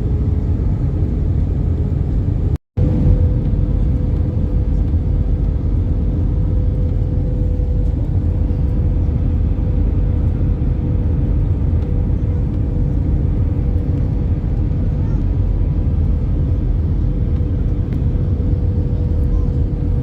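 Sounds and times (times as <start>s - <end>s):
airliner cabin low rumble: 0.0s - 20.0s.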